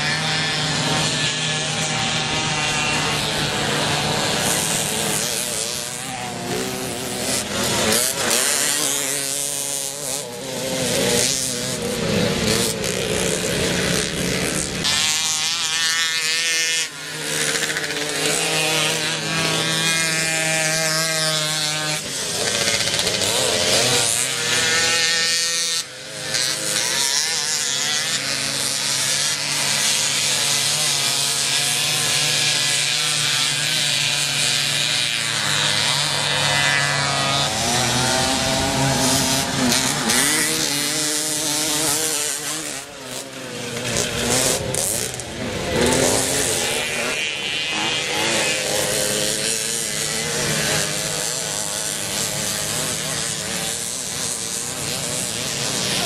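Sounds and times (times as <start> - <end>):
moped engines revving: 0.0 - 56.0.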